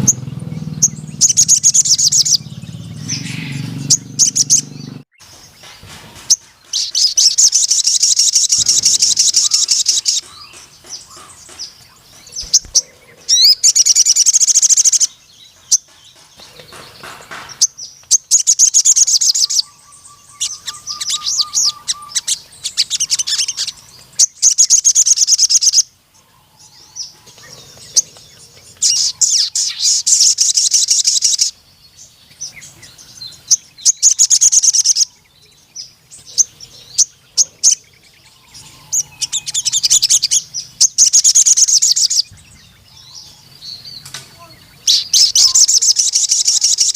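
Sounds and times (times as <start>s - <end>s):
bird rapid trilled song: 0.0s - 46.9s.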